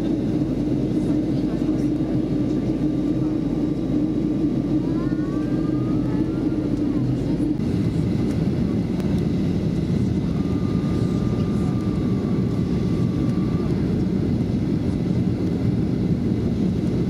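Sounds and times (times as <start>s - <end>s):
airplane cabin engine rush: 0.0s - 17.0s.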